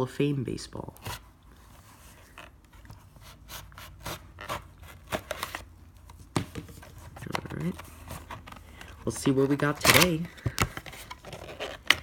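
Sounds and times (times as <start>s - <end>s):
packaging scraping and crinkling: 1.0s - 12.0s.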